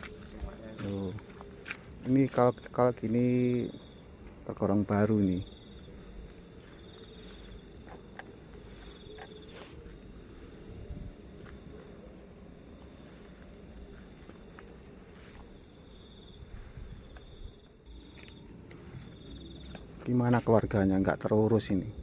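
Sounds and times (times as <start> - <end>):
crickets chirping: 0.0 - 22.0
pulsed insect trills: 0.0 - 22.0.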